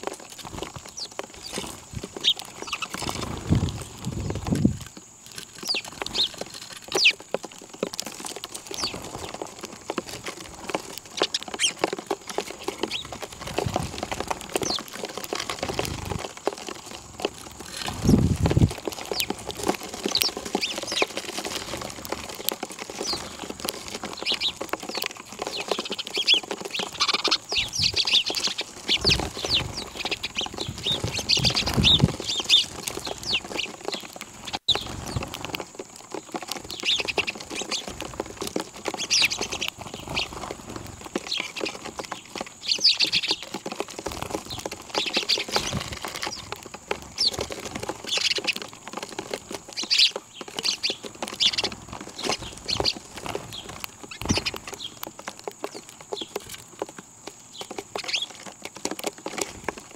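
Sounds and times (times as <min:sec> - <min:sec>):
wing flaps: 0:00.0 - 0:07.2, 0:08.0 - 0:55.0
small birds chirping: 0:00.0 - 0:59.9.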